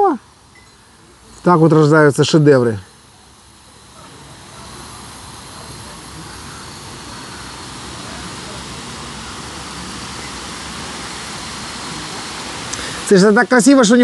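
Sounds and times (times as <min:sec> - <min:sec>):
steam hissing from valve: 0:00.0 - 0:14.0.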